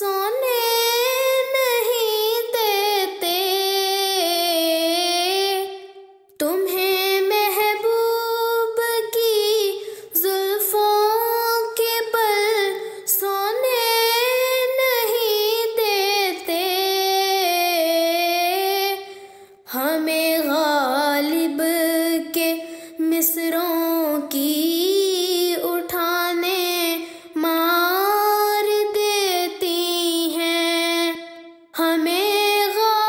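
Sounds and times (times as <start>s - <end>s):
woman singing: 0.0s - 33.0s.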